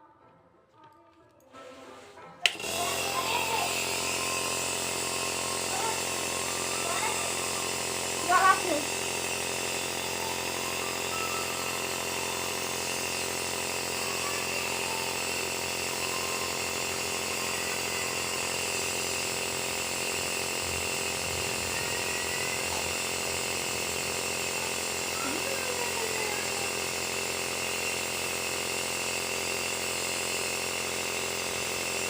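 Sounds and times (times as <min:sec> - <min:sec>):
nebulizer mechanical hum: 0:00.8 - 0:32.0.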